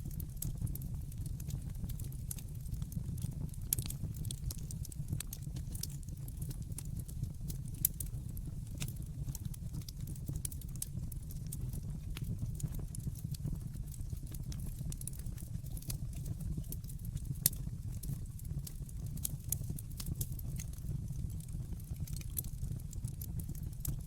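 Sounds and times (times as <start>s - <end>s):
fire pops and snaps: 0.0s - 24.0s
low rumble of flames: 0.0s - 24.0s.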